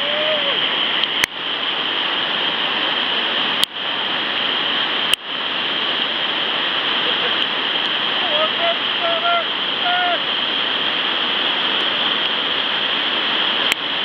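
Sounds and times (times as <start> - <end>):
water roaring over a weir: 0.0 - 14.0.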